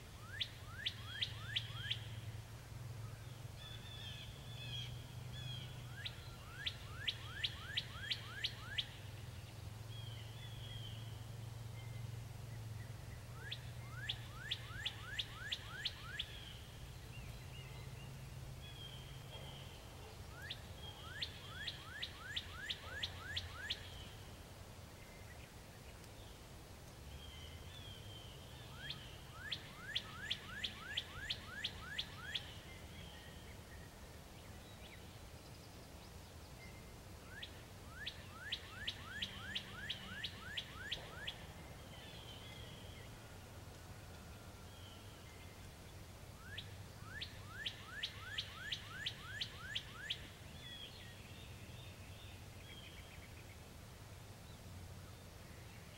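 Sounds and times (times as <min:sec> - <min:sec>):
low steady hum: 0:00.0 - 0:48.2
songbird singing: 0:00.0 - 0:55.9.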